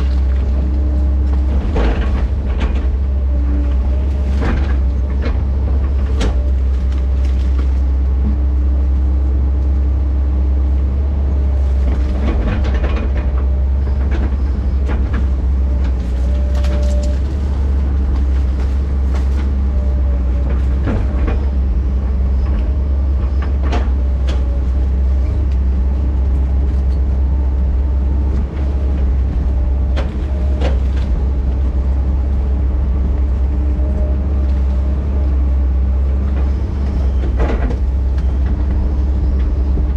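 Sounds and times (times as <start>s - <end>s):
heavy equipment diesel engine running: 0.0s - 39.9s.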